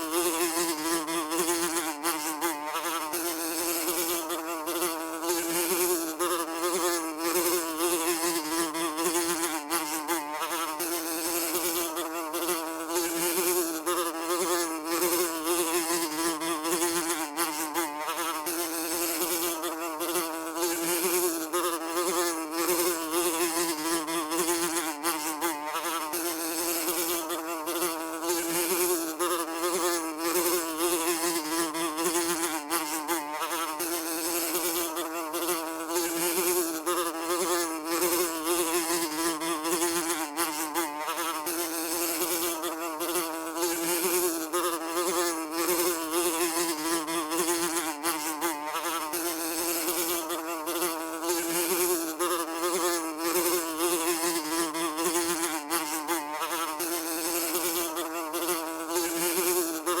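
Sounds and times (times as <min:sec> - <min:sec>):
housefly buzzing: 0:00.0 - 1:00.0.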